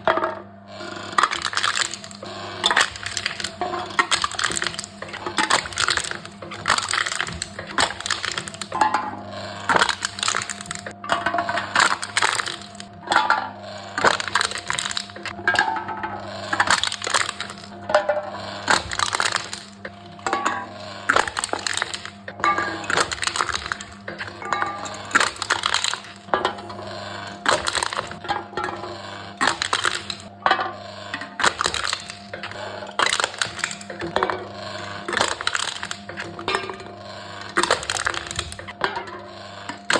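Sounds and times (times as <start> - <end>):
low machine hum: 0.0 - 39.9
cans being crushed: 1.2 - 8.9, 9.5 - 12.9, 13.9 - 15.7, 16.5 - 18.0, 18.6 - 30.3, 31.1 - 39.9.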